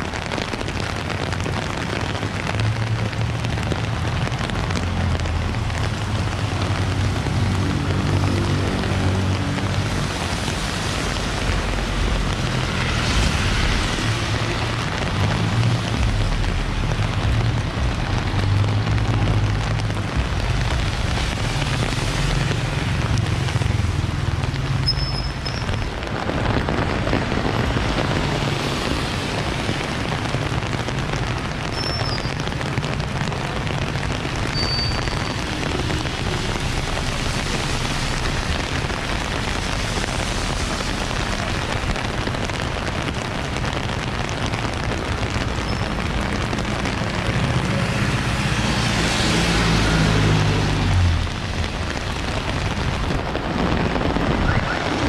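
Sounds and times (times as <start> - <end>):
passing vehicles rumbling: 0.0 - 55.0
rain hiss: 0.0 - 55.0
tyres on wet pavement: 0.0 - 55.0.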